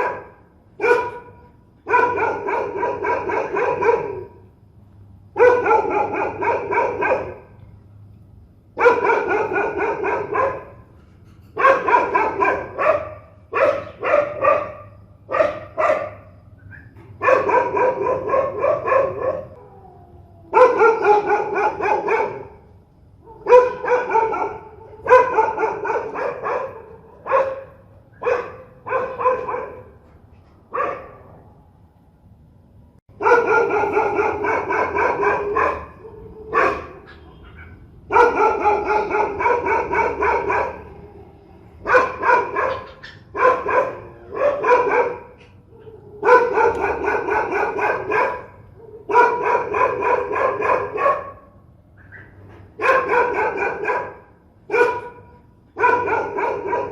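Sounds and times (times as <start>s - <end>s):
dog barking fiercely: 0.0s - 4.5s, 5.3s - 7.6s, 8.7s - 19.6s, 20.5s - 30.0s, 30.7s - 31.4s, 33.1s - 56.9s.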